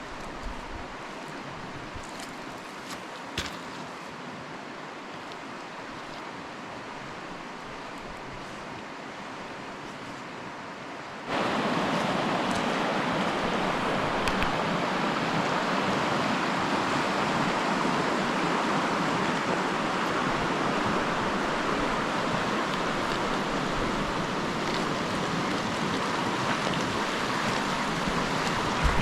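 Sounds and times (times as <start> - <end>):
creek water rushing over rocks: 0.0 - 29.0.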